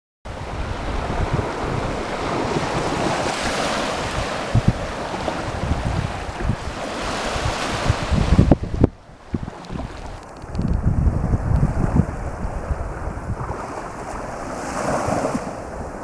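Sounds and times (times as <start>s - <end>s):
small waves washing onto sand: 0.3s - 16.0s
wind buffeting the microphone: 0.3s - 16.0s.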